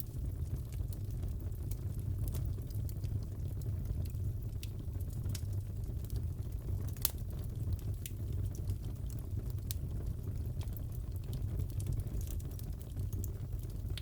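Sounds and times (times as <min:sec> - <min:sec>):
fire crackles and pops: 0:00.0 - 0:14.0
wood fire rumbling: 0:00.0 - 0:14.0.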